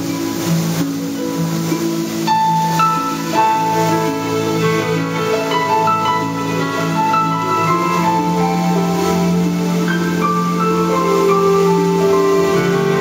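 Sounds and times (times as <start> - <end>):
piano-like melody: 0.0 - 13.0.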